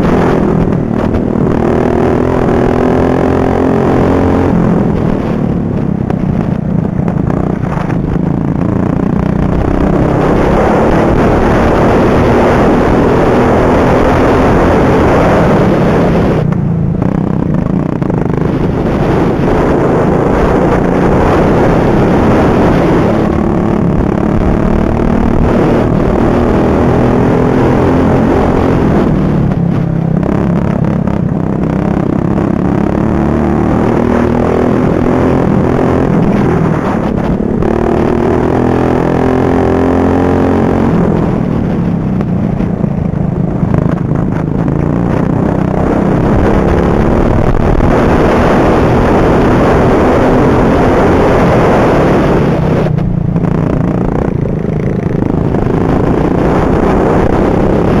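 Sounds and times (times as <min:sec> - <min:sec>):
ride-on mower engine racing: 0:00.0 - 0:58.0.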